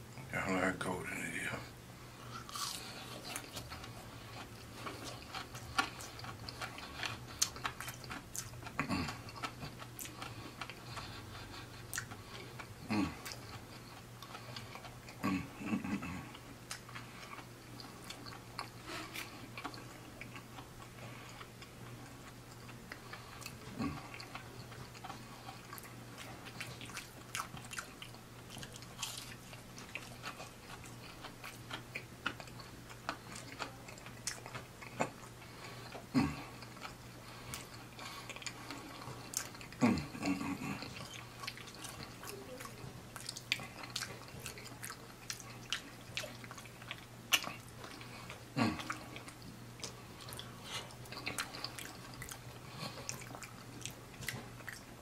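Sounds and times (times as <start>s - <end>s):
faint low hum: 0.0s - 55.0s
chewing crispy fried food: 1.1s - 55.0s.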